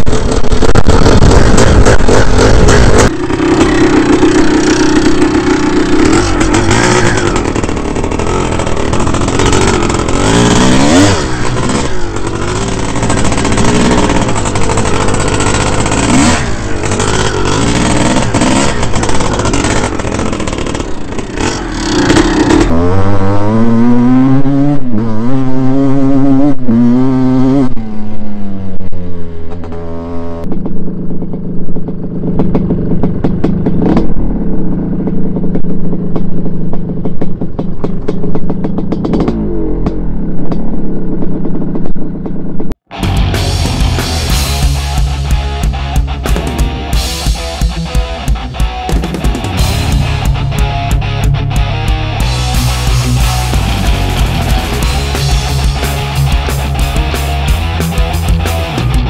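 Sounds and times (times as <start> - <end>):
dirt bike engines revving: 0.0 - 31.5, 39.0 - 59.0.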